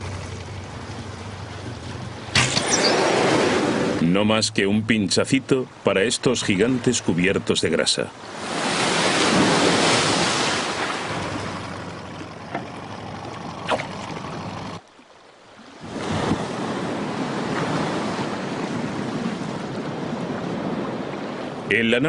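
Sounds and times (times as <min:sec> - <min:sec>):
waves washing: 0:00.0 - 0:22.0
wind: 0:00.0 - 0:22.0.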